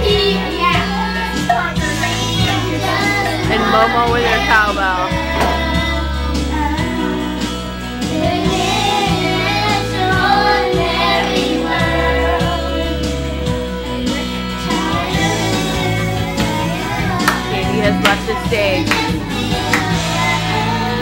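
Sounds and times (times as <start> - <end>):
song with voices singing along: 0.0 - 21.0
steady bass line: 1.6 - 21.0.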